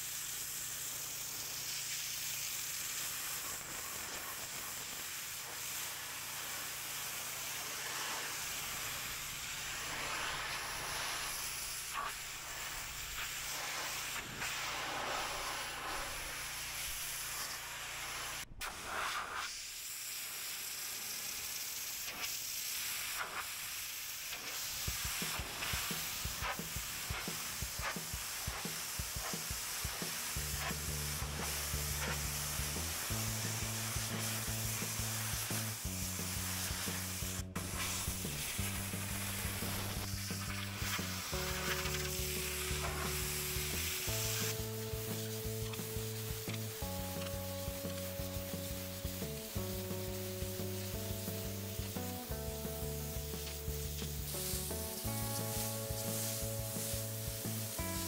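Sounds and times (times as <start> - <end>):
pressure washer jet hissing on paving: 0.0 - 58.0.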